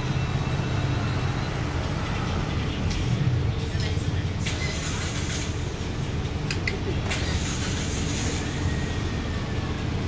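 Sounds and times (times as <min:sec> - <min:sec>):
street stall background rumble: 0:00.0 - 0:10.0.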